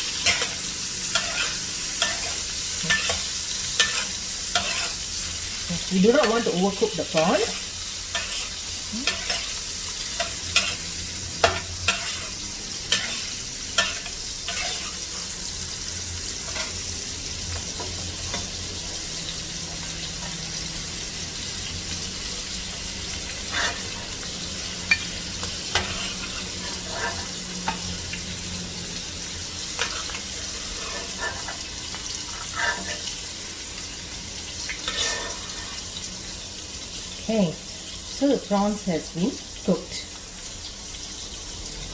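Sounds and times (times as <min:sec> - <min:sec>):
prawns sizzling in hot oil: 0:00.0 - 0:41.9.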